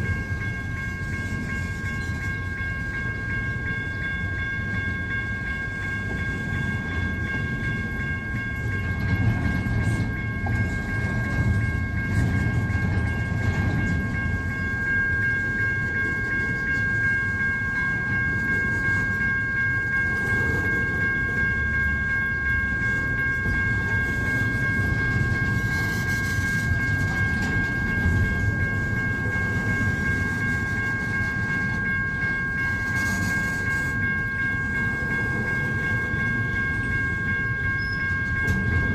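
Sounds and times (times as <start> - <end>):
freight train cars rumbling: 0.0 - 38.9
high-pitched ringing tone: 0.0 - 38.9.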